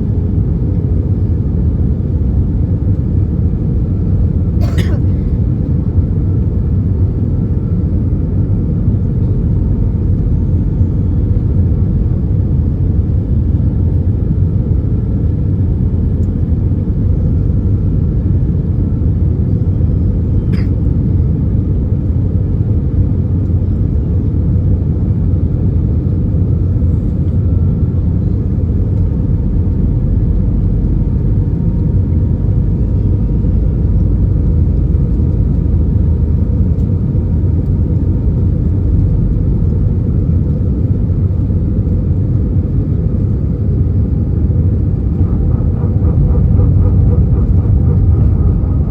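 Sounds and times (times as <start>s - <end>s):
airplane cabin engine rumble: 0.0s - 48.9s.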